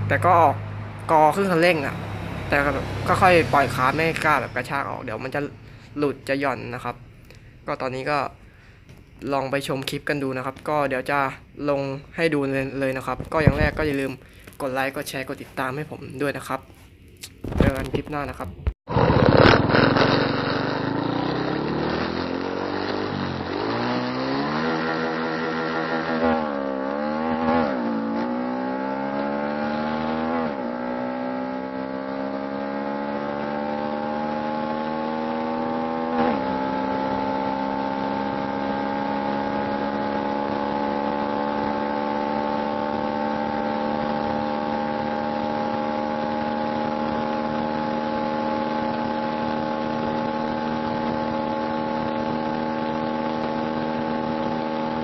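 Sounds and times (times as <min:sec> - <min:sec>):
motorcycle engine accelerating: 0:00.0 - 0:07.4, 0:13.0 - 0:14.1, 0:17.5 - 0:55.0.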